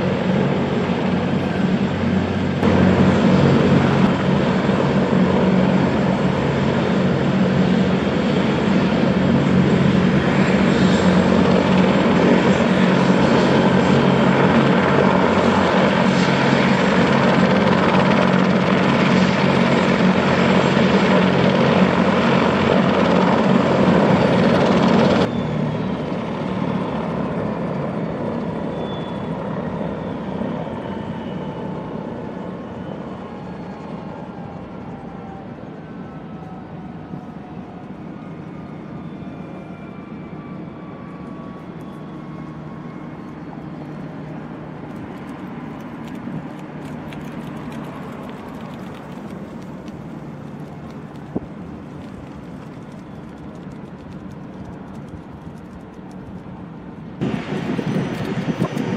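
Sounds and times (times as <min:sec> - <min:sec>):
engine spooling down whine: 0:00.0 - 0:58.9
helicopter idling: 0:00.0 - 0:58.9.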